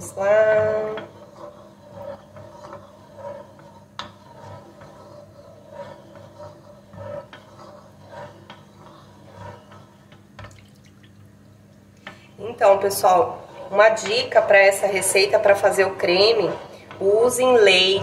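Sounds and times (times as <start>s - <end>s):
spatula scraping pot bottom: 0.0s - 10.7s, 12.0s - 18.0s.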